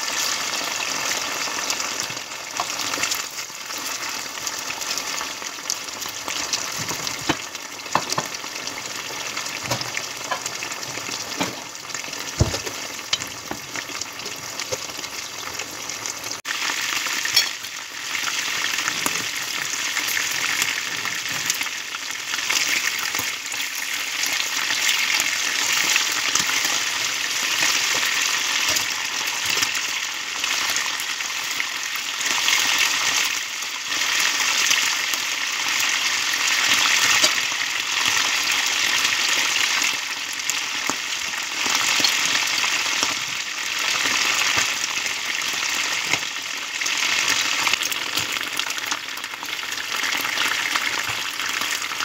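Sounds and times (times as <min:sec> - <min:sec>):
chicken wings sizzling in oil: 0:00.0 - 0:52.0.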